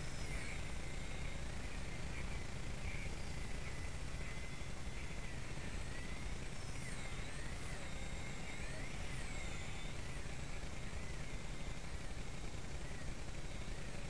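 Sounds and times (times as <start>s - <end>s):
toy helicopter motor whining: 0.0s - 14.0s.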